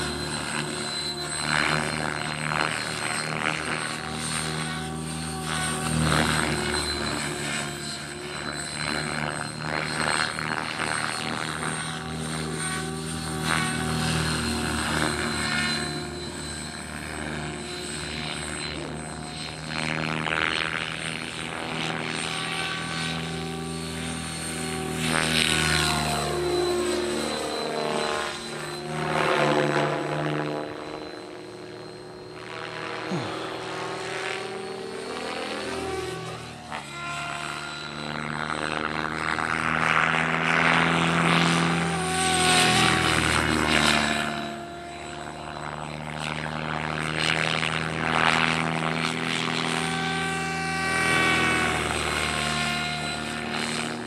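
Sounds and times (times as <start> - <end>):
model helicopter motor whine: 0.0 - 54.0.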